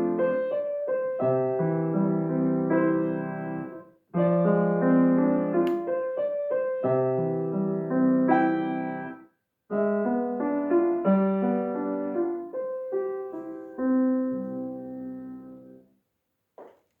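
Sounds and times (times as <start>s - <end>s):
solo piano: 0.0s - 16.0s.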